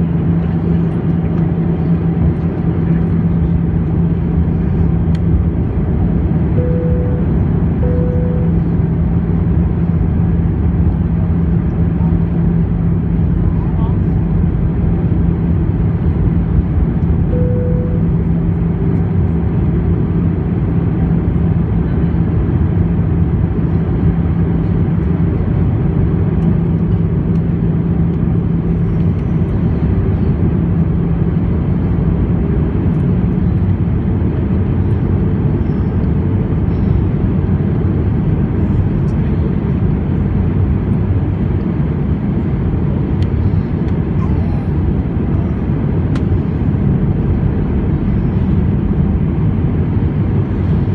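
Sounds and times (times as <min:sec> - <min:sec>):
airplane cabin engine roar: 0:00.0 - 0:50.9
low hum: 0:00.0 - 0:50.9.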